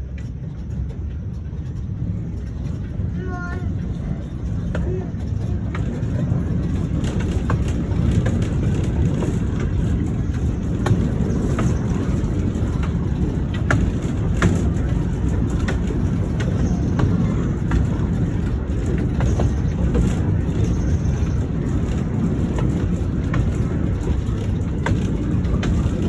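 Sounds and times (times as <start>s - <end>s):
train rumbling with clanks: 0.0s - 26.0s.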